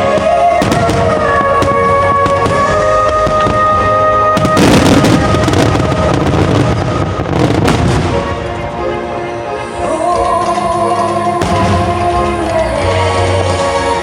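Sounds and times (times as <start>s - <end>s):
fireworks bursting and crackling: 0.0s - 14.0s
music playing: 0.0s - 14.0s.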